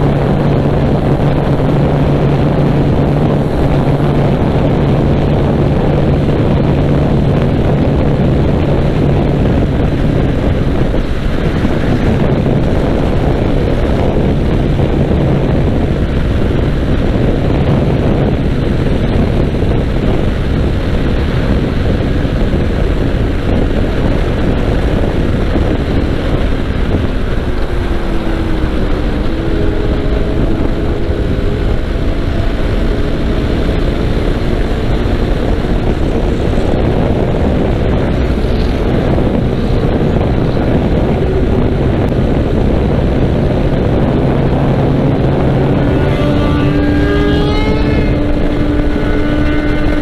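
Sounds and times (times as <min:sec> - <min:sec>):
motorcycle engine running: 0:00.0 - 0:50.0
wind rushing over microphone: 0:00.0 - 0:50.0.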